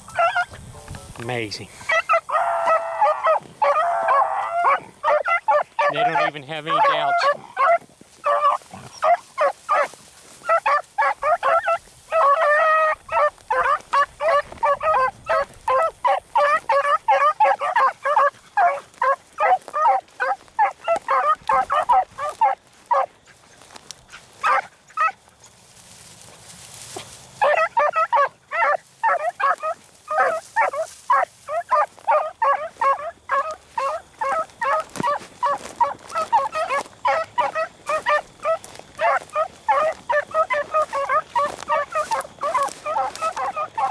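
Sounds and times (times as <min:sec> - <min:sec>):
hounds baying: 0:00.0 - 0:00.7, 0:01.3 - 0:43.9.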